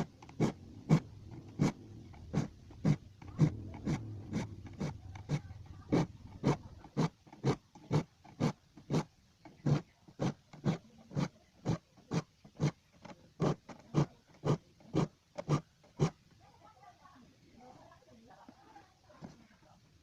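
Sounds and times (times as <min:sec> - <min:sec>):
file rasping on saw teeth: 0:00.0 - 0:16.2.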